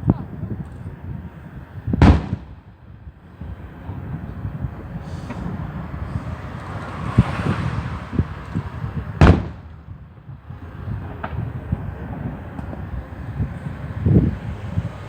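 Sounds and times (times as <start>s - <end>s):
firework bangs: 0.0s - 15.0s
rising rush of fireworks: 0.0s - 15.0s.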